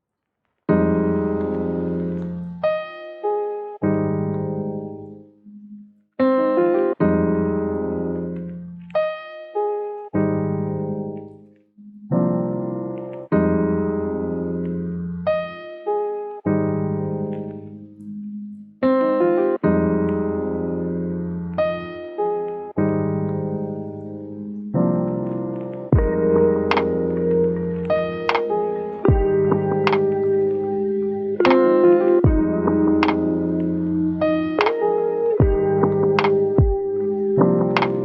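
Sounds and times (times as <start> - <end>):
slow solo piano chords: 0.7 - 5.3, 6.2 - 11.5, 12.1 - 18.2, 18.9 - 38.0.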